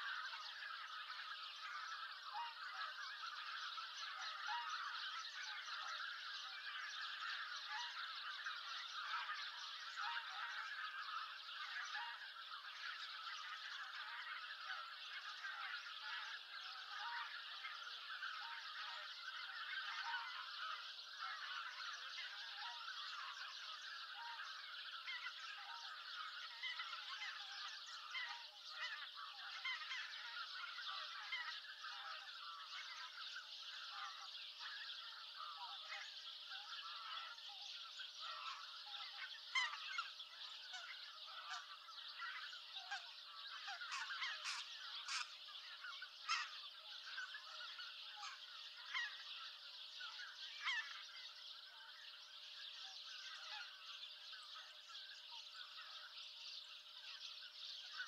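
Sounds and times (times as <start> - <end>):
geese honking: 0.0 - 52.0, 52.8 - 56.1.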